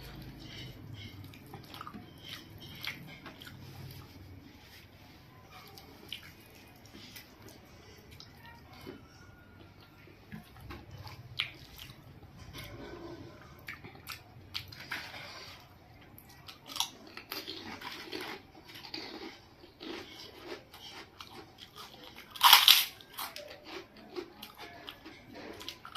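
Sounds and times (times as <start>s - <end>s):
wet chewing: 0.0s - 9.1s, 9.8s - 25.9s.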